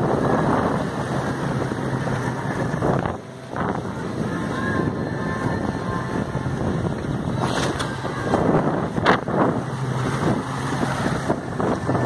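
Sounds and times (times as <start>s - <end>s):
hull slapping waves: 0.0s - 12.0s
outboard motor running: 0.0s - 12.0s
water rushing past hull: 0.0s - 12.0s
wind on microphone: 0.0s - 12.0s.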